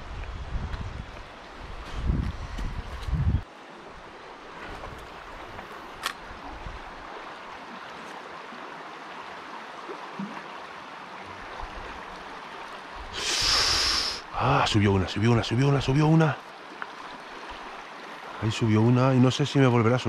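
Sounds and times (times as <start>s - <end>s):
river water rushing: 3.4s - 20.0s.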